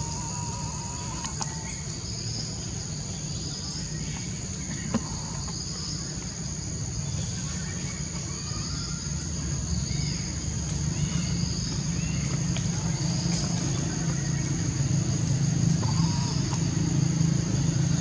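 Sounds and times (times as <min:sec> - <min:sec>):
insect chorus drone: 0:00.0 - 0:18.0
low background rumble: 0:00.0 - 0:18.0.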